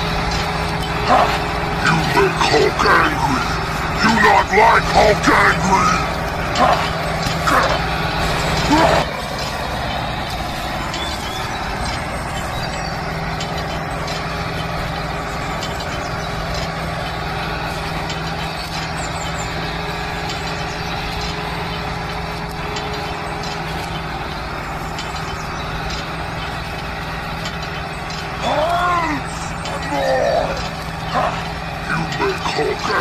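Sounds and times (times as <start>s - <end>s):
tractor motor humming: 0.0s - 33.0s.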